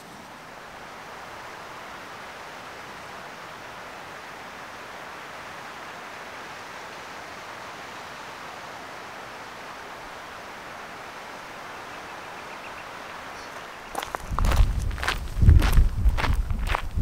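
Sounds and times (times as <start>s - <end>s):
creek water rushing: 0.0s - 15.2s.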